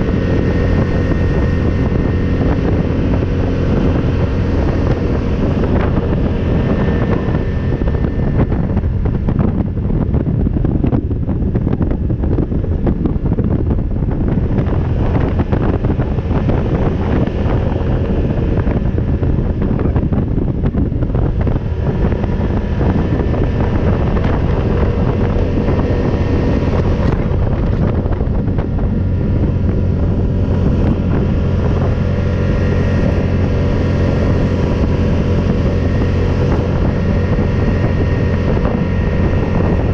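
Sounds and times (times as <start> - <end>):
atv engine running: 0.0 - 39.9
wind buffeting microphone: 0.0 - 39.9.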